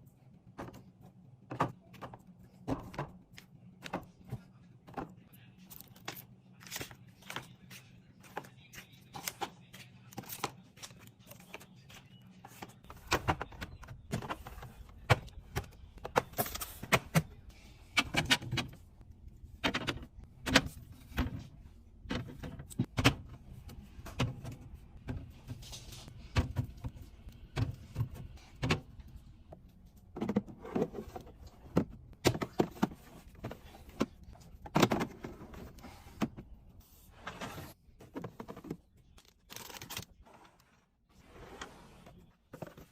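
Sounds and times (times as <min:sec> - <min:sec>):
low background hum: 0:00.0 - 0:42.9.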